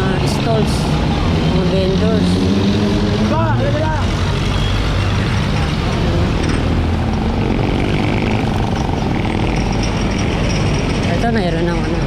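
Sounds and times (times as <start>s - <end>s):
road and traffic noise: 0.0s - 12.0s
vehicle engine humming: 0.0s - 12.0s.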